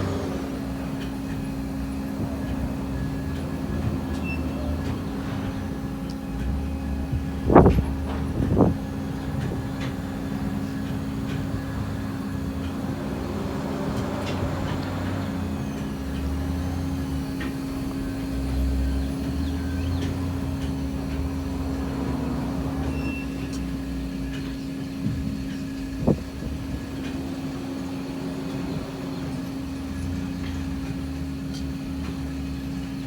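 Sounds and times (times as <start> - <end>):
low rumble: 0.0 - 33.0
sawmill machinery humming: 0.0 - 33.0.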